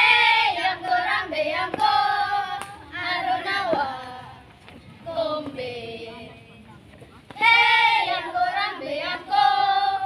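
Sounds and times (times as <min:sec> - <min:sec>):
girls singing together: 0:00.0 - 0:06.3, 0:07.4 - 0:10.0.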